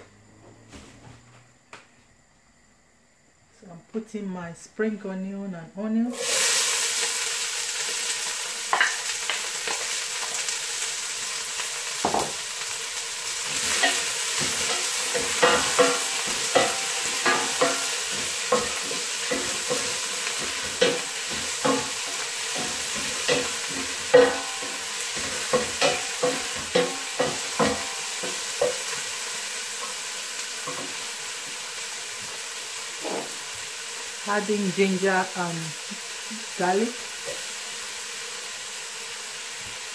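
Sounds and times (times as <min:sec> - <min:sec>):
onions sizzling in oil: 0:06.1 - 0:39.9.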